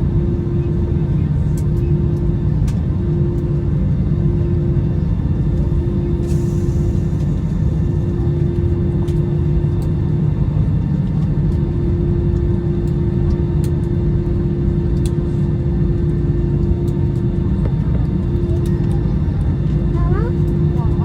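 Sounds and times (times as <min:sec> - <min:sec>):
airliner cabin engine rumble: 0:00.0 - 0:21.0
steady hum: 0:00.0 - 0:21.0.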